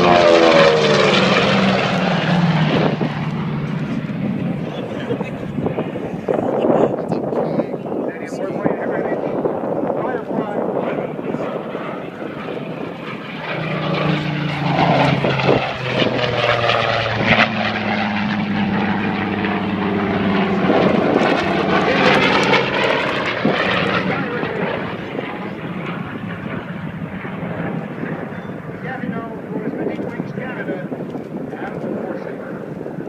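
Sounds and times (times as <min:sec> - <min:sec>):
propeller aircraft flying past: 0:00.0 - 0:33.0.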